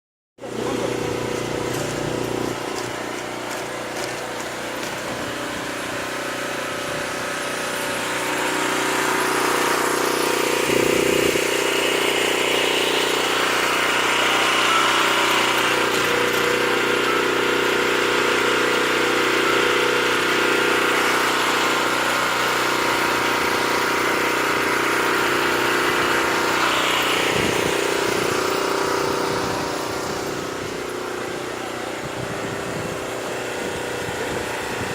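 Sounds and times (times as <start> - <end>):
motor humming: 0.4 - 34.9.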